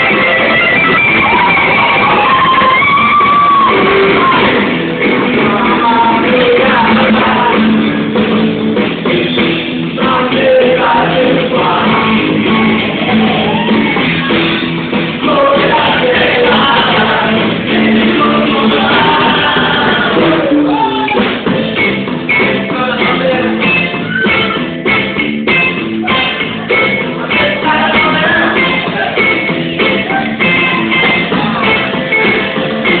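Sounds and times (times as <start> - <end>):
drums: 0.0 - 33.0
electric guitar: 0.0 - 33.0
person singing: 1.2 - 8.1, 10.0 - 14.4, 15.2 - 21.8, 22.4 - 24.6, 26.0 - 33.0.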